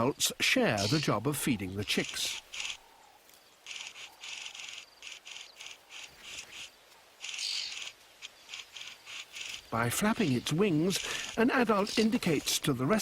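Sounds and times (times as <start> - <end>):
birds giving harsh hissing calls: 0.6 - 12.4.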